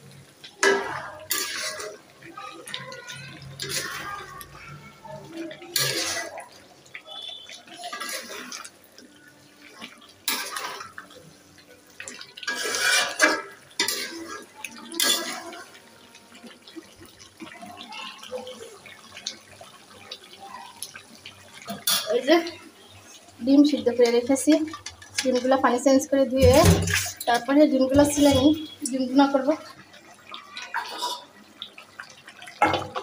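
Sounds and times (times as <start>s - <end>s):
water splashing in a pot: 0.0s - 33.0s.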